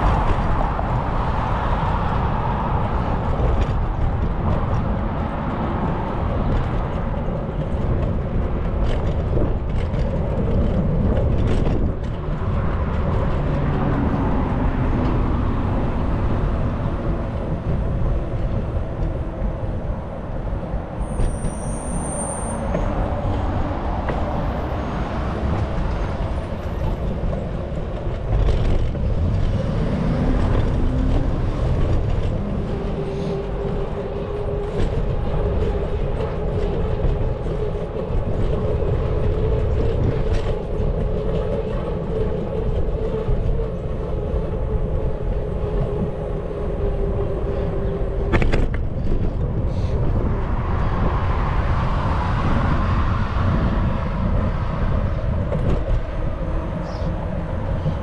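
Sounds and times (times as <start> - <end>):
low road noise: 0.0 - 58.0
wind on microphone: 0.0 - 58.0.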